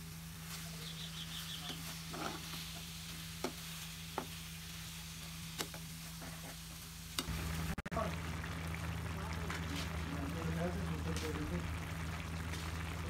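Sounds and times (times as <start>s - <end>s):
food sizzling in a pan: 0.0s - 13.0s
potatoes simmering in water: 0.1s - 13.0s.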